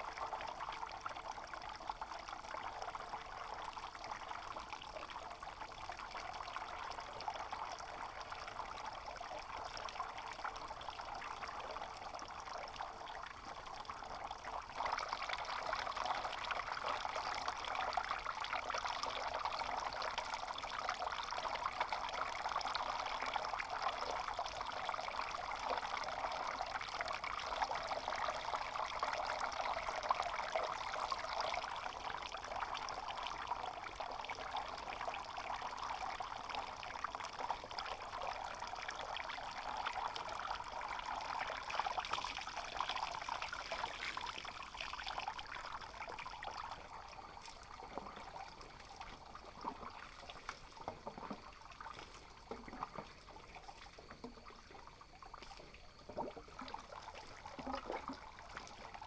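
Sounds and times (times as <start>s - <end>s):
water pouring and trickling: 0.0s - 59.0s.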